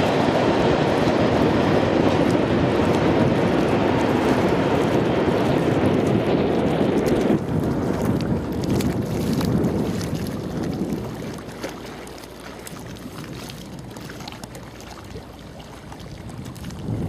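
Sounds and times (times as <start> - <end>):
water noise of small boat: 0.0 - 17.0
wind rumbling on microphone: 0.0 - 17.0.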